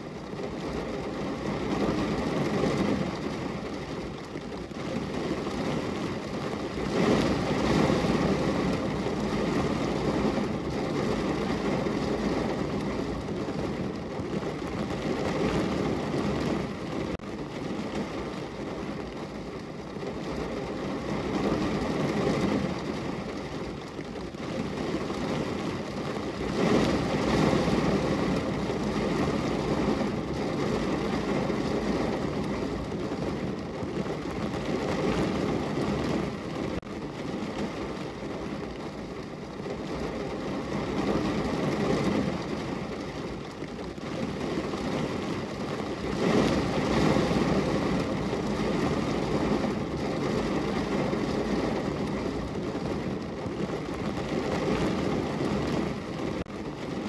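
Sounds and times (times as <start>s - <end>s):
rain falling on a window: 0.0s - 57.0s.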